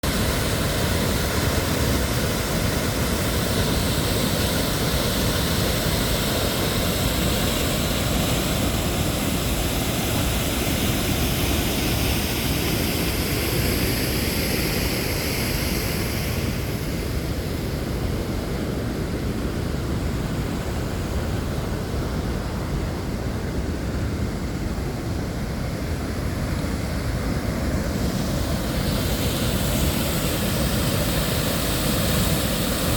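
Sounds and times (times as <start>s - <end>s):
waterfall roaring: 0.0s - 32.9s.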